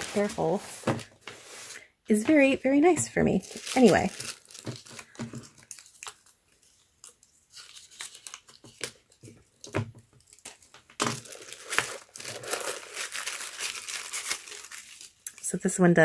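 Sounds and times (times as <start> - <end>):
paper and nylon bag rustling: 0.0 - 15.5.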